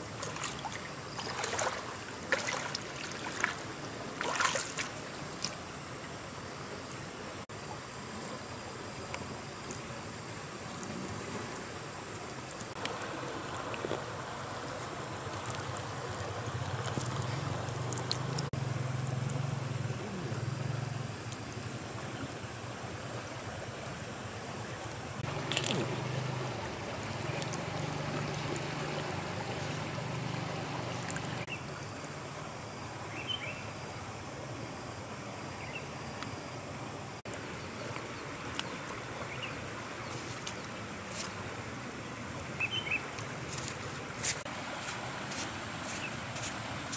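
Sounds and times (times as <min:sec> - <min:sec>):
running river water: 0:00.0 - 0:46.9.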